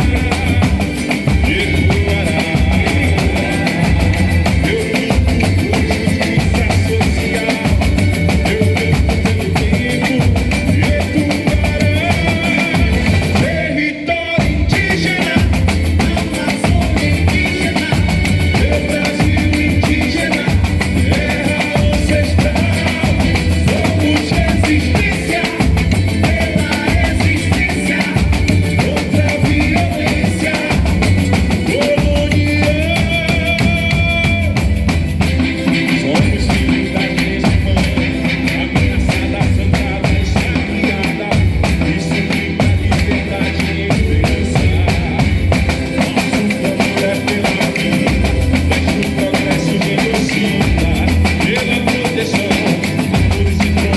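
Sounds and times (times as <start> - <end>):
guitar: 0.0 - 53.9
keyboard: 0.0 - 53.9
percussion drumming steady beat: 0.0 - 53.9.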